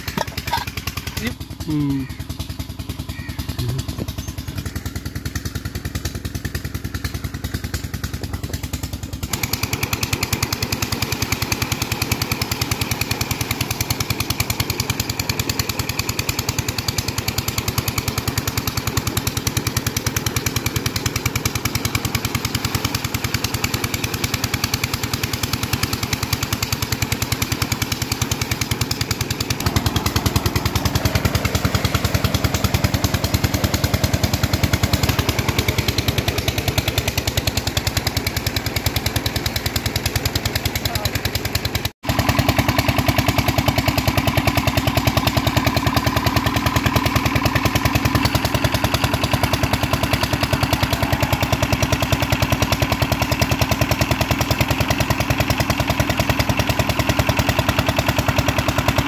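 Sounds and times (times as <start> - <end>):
pump engine chugging: 0.0 - 59.0.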